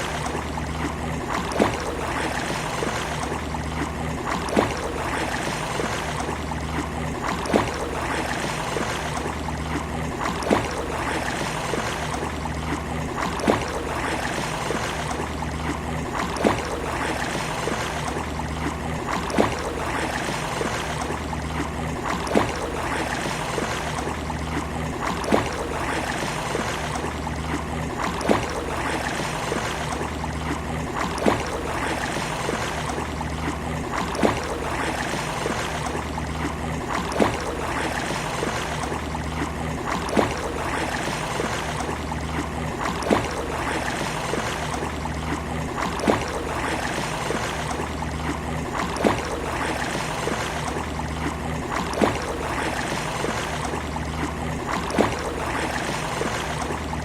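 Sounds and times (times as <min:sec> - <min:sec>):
sea waves washing on beach: 0:00.0 - 0:57.0.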